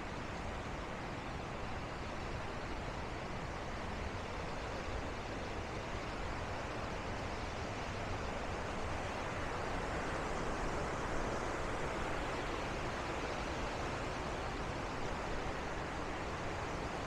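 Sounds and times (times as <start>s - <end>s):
white water rushing: 0.0s - 17.0s.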